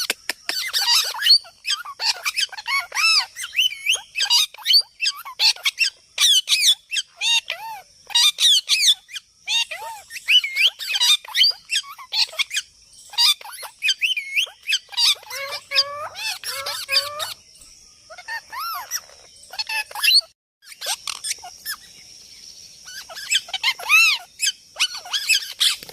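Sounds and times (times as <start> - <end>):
parrot squawking: 0.5 - 17.4, 18.1 - 21.8, 22.9 - 25.8.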